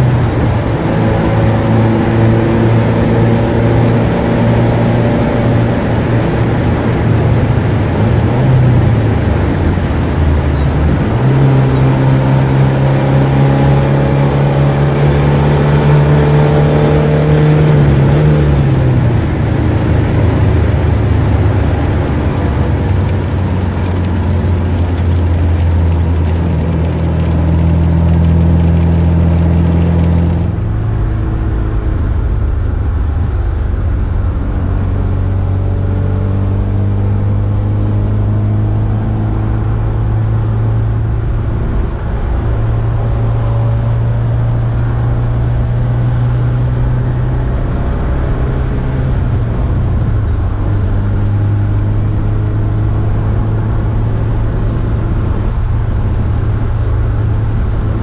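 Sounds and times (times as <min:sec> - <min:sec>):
car engine from inside cabin: 0:00.0 - 0:58.0.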